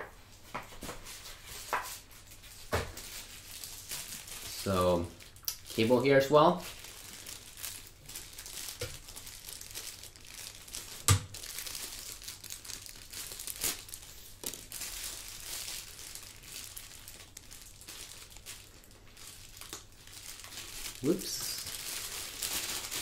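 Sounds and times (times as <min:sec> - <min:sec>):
plastic packaging crinkling: 0:01.5 - 0:23.0.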